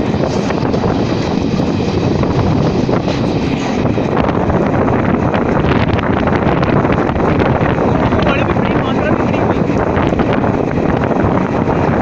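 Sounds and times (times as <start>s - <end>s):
train wheels rumbling on track: 0.0s - 12.0s
wind buffeting microphone: 0.0s - 12.0s.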